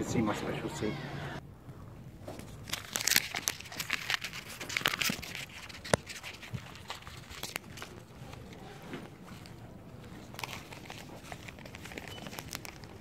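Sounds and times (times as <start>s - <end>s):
rustling handling noise: 1.7s - 13.0s.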